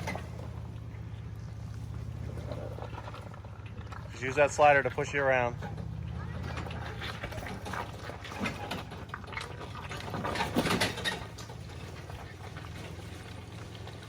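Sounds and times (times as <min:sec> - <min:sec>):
truck engine running at low revs: 0:00.0 - 0:14.0.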